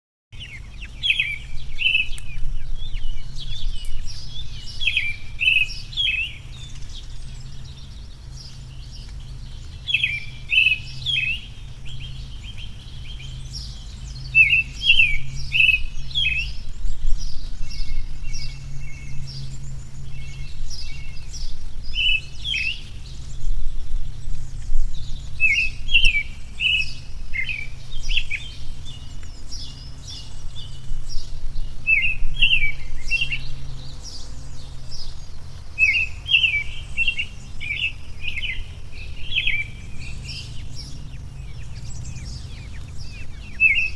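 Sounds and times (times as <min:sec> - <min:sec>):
birds chirping: 0:00.3 - 0:43.9
steady low hum: 0:00.4 - 0:43.9.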